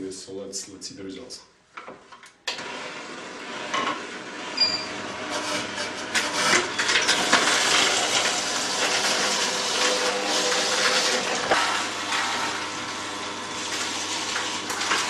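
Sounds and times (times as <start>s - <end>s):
juicer motor hum: 2.5s - 15.0s.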